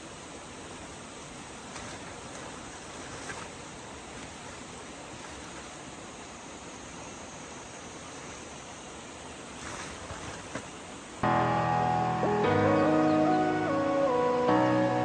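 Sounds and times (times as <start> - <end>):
outdoor ambient hiss: 0.0 - 15.0.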